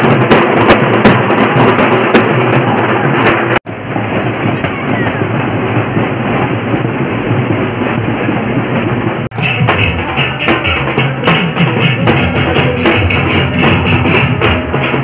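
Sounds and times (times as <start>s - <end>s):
crowd voices: 0.0s - 15.0s
drum band playing: 0.0s - 15.0s.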